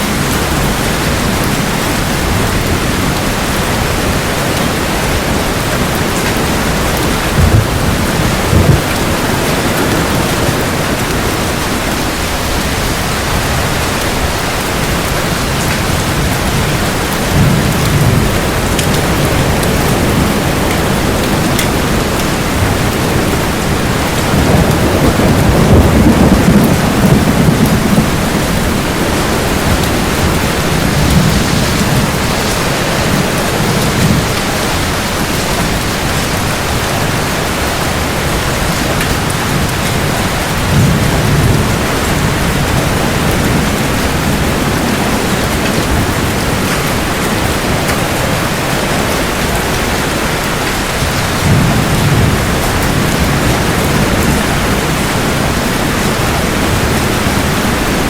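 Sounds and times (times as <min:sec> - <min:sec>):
heavy rain hissing: 0:00.0 - 0:58.0
thunder rumbling: 0:00.0 - 0:58.0.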